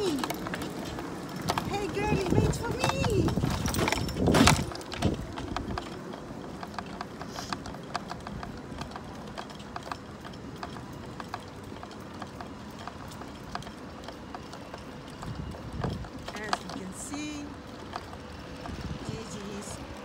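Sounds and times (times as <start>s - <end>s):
footsteps on brick paving: 0.0s - 20.0s
low outdoor background: 0.0s - 20.0s.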